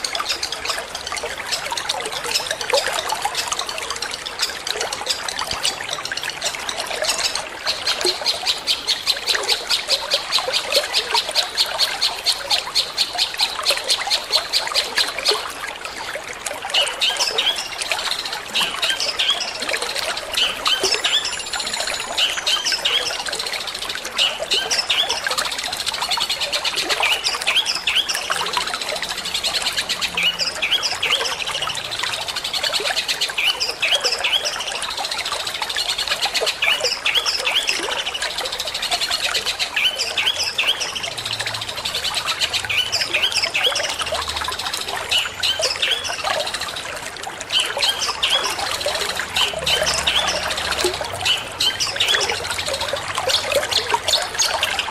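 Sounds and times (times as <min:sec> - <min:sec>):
running water trickling: 0:00.0 - 0:54.9.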